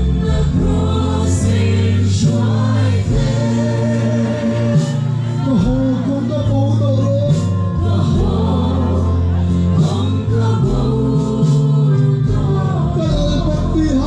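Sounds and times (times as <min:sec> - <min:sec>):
amplified band: 0:00.0 - 0:14.0
crowd singing worship song: 0:00.0 - 0:14.0
sustained bass notes: 0:00.0 - 0:14.0.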